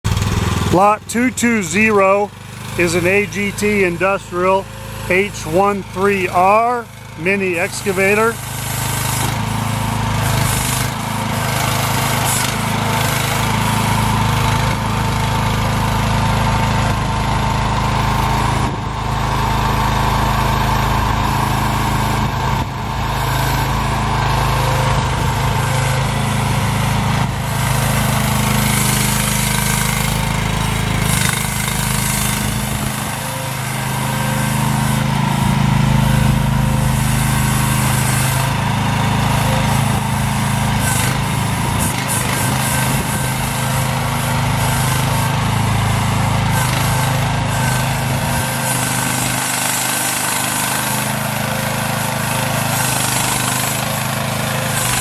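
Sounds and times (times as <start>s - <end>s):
excavator engine running: 0.0s - 55.0s.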